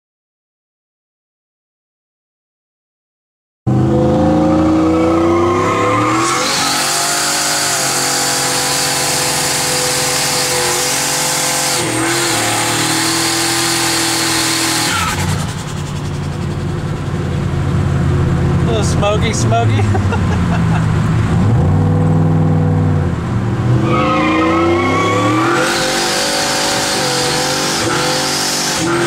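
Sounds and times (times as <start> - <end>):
truck engine revving: 3.7 - 29.0.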